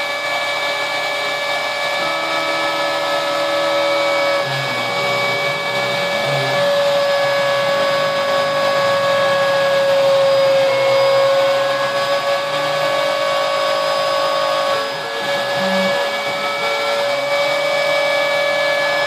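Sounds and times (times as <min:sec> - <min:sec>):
router bit cutting wood: 0:00.0 - 0:19.0
spindle motor whine: 0:00.0 - 0:19.0
stepper motor tones: 0:00.0 - 0:19.0.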